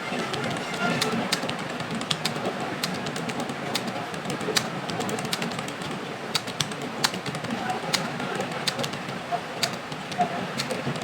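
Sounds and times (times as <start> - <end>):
steady background noise: 0.0 - 11.0
keyboard keys clicking: 0.2 - 11.0.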